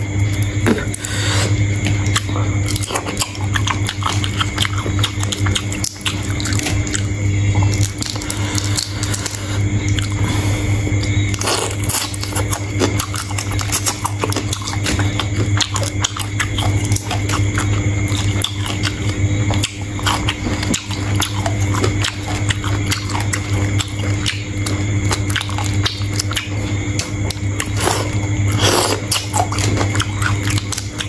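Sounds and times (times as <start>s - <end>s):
low hum: 0.0s - 31.0s
person chewing shrimp: 0.0s - 31.0s.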